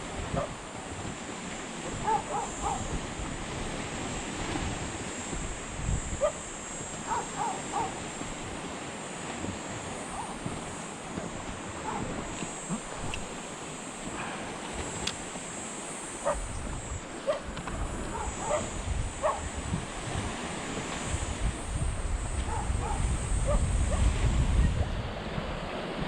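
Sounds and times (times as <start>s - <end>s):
surf: 0.0s - 26.0s
wind: 0.0s - 26.0s.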